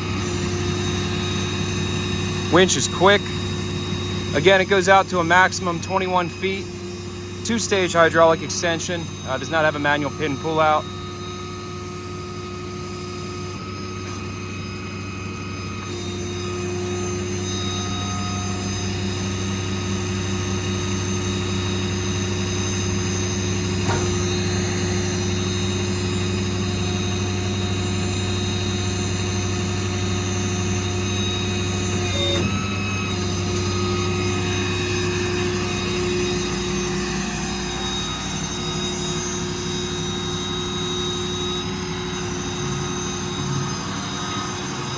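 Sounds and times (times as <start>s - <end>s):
diesel engine running: 0.0s - 44.9s
hydraulic crane mechanical drone: 0.0s - 44.9s.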